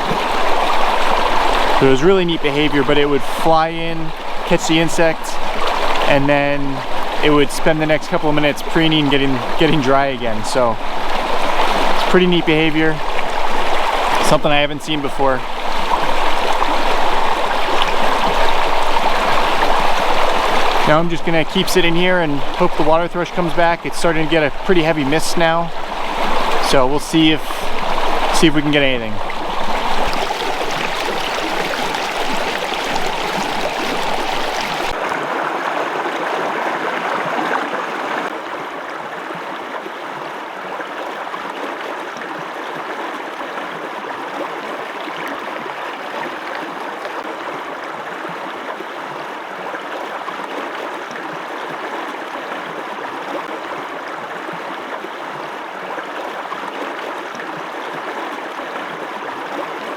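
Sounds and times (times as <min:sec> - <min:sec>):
brook running water: 0:00.0 - 0:59.9.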